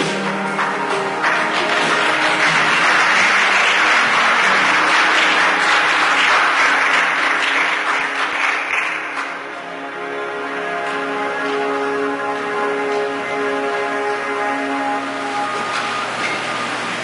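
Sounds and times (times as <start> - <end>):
soft instrumental music: 0.0 - 16.8
crowd applauding: 0.0 - 17.0.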